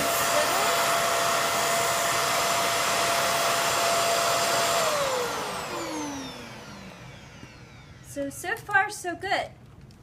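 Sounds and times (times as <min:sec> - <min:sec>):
vacuum motor spinning down: 0:00.0 - 0:08.7
vacuum cleaner whining: 0:00.0 - 0:08.9.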